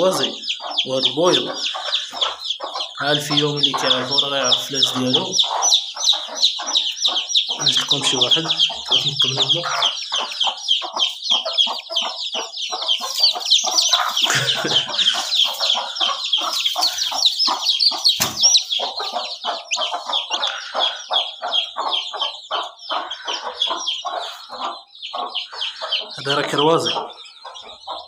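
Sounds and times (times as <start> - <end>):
chicks peeping: 0.0 - 28.0
hens clucking: 0.0 - 28.0.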